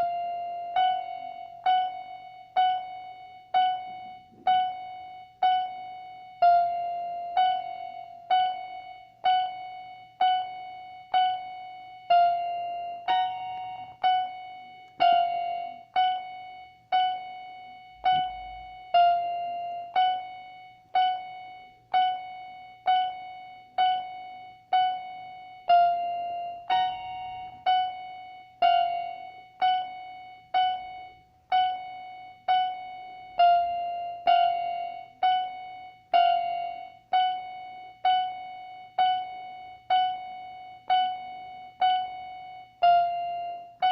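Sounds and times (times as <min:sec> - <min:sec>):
electronic keyboard slow melody: 0:00.0 - 0:43.9.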